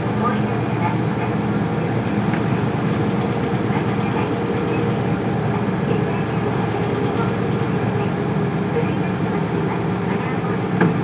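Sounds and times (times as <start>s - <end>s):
diesel bus engine running: 0.0s - 11.0s.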